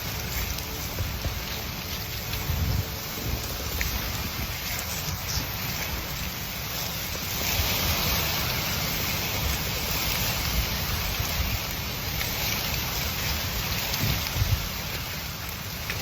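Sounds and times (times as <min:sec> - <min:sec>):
swarm of locusts hissing: 0:00.0 - 0:16.0.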